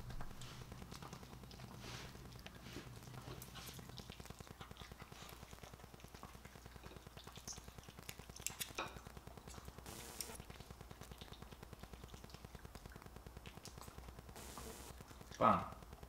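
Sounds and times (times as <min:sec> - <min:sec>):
dog chewing and smacking: 0:00.0 - 0:16.0
teeth and food clicking on plate: 0:00.0 - 0:16.0.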